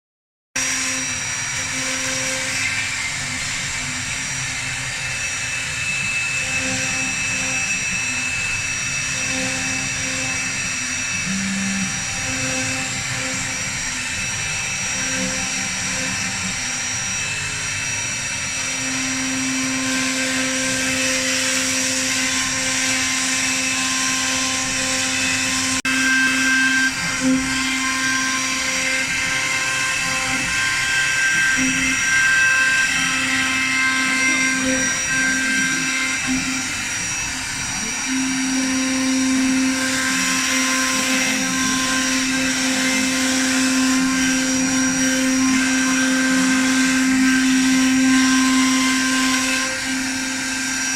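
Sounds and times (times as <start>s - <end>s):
router spindle whine: 0.6s - 50.9s.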